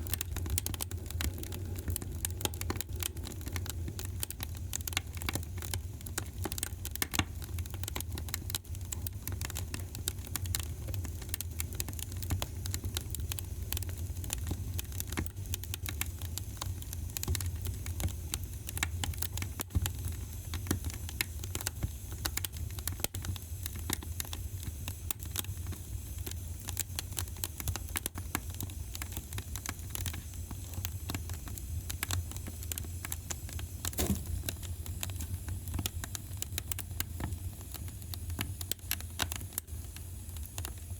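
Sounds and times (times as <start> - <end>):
low steady fire rumble: 0.0 - 40.9
wood fire crackling: 0.0 - 40.9.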